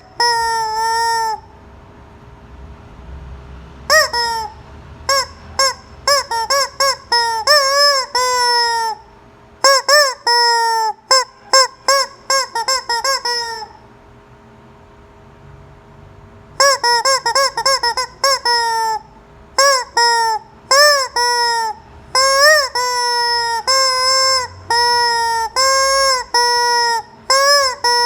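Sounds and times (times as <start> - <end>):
rubber chicken toy squawking: 0.0 - 1.6, 3.9 - 13.9, 16.6 - 28.0.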